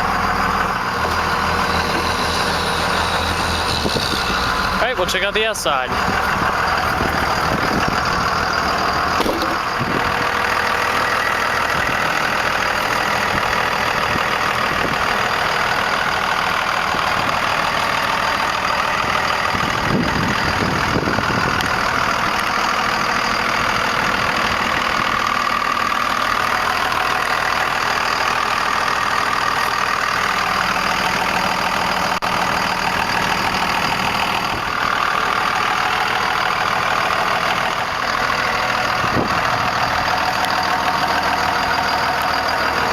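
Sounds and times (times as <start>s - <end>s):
diesel engine idling: 0.0s - 42.9s
turbocharger whine: 0.0s - 42.9s.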